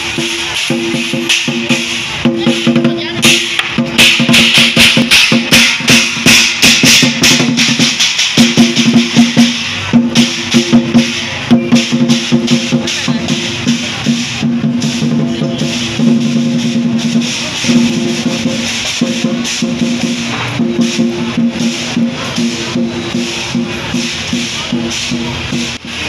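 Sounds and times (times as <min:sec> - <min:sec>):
cymbal clashes: 0:00.0 - 0:26.0
drum: 0:00.0 - 0:26.0.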